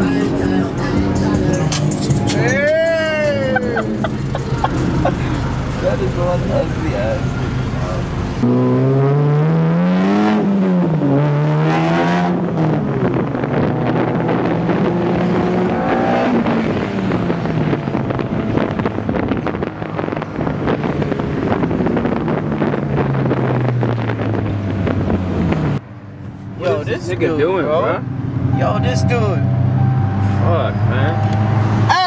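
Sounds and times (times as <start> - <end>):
car engine at high revs: 3.1 - 32.0.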